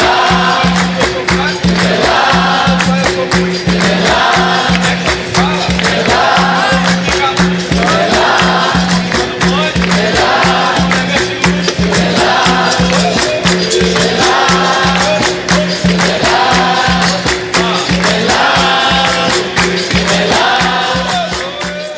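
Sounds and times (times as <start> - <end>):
fast percussion: 0.0 - 21.9
people singing: 0.0 - 21.9
tambourine: 0.0 - 21.9.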